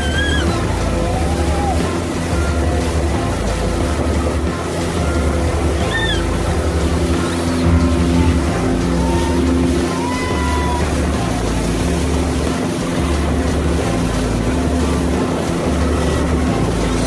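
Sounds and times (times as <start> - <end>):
churning water rushing: 0.0 - 17.0
outboard motor running: 0.0 - 17.0
wind buffeting microphone: 0.0 - 17.0.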